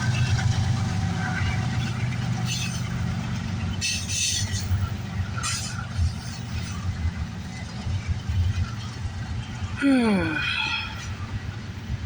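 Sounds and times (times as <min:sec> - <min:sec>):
wheels clunking on rails: 0:00.0 - 0:09.8
freight train rumbling past: 0:00.0 - 0:12.0.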